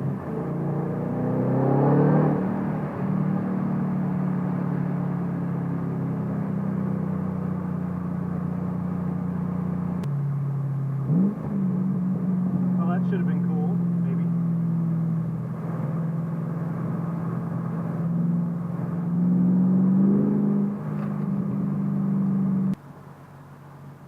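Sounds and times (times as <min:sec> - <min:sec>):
car engine revving: 0:00.0 - 0:22.8.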